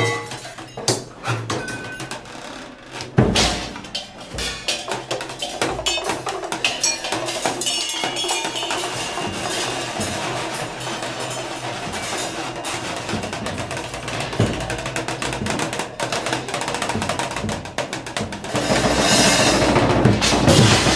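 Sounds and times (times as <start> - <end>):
drum strikes: 0.0 - 2.2, 3.1 - 20.9
rapid percussion clicks and ticks: 0.0 - 20.9.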